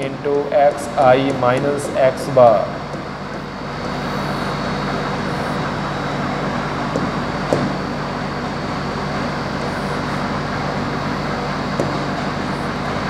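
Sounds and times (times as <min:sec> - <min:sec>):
room noise with low hum: 0:00.0 - 0:13.0.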